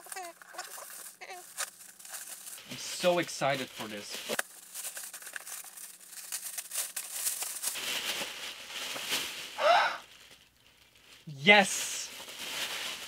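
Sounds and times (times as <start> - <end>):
tissue paper crinkling: 0.0 - 13.0.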